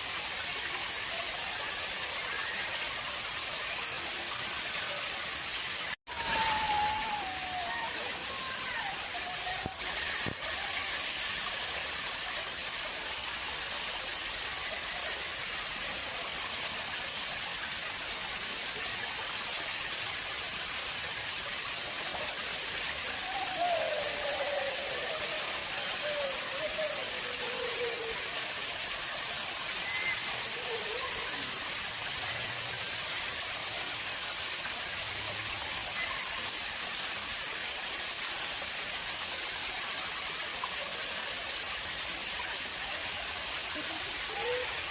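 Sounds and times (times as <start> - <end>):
water falling into pond: 0.0 - 44.9.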